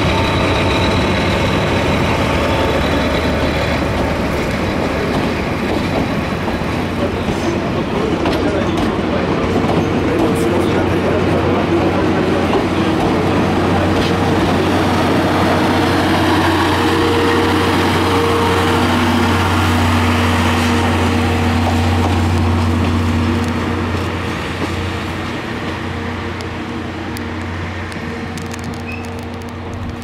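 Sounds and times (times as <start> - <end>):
diesel train engine hum: 0.0 - 30.0
wheels rumbling on rail: 0.0 - 30.0.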